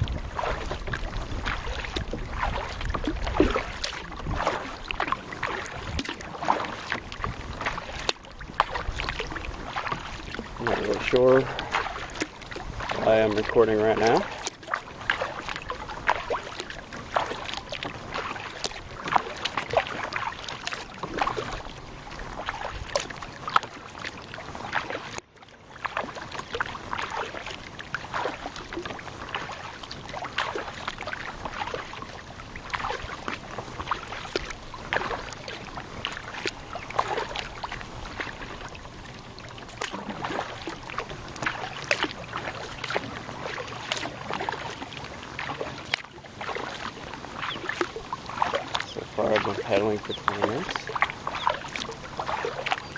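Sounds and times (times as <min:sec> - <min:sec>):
paddle splashing in water: 0:00.0 - 0:52.9.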